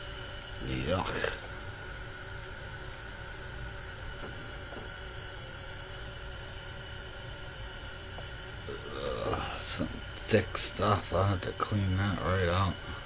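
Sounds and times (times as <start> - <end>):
background hiss: 0.0 - 13.0
faint hum: 0.0 - 13.0.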